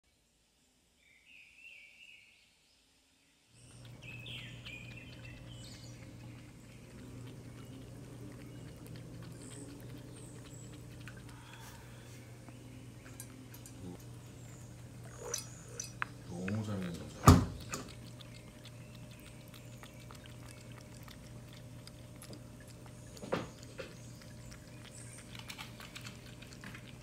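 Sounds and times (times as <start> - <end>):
cats lapping milk: 3.6 - 27.0
low hum: 3.6 - 27.0.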